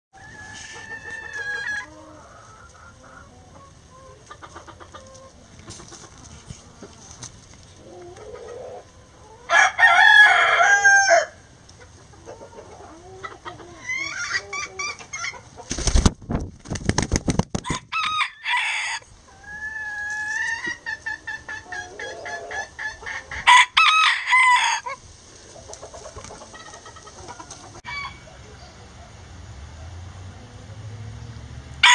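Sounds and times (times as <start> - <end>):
roosters crowing: 0.2 - 15.7, 17.6 - 29.0.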